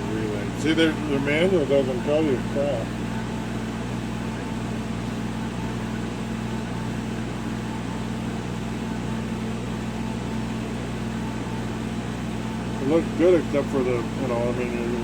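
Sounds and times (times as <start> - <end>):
cnc machine humming: 0.0 - 15.0.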